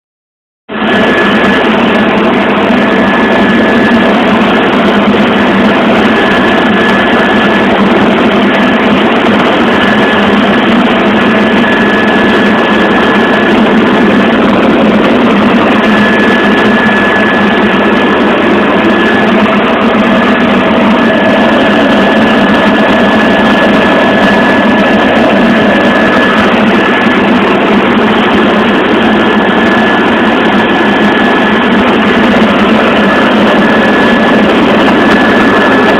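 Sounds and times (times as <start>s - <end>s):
helicopter engine and rotor: 0.7s - 35.9s
high whine: 0.7s - 35.9s.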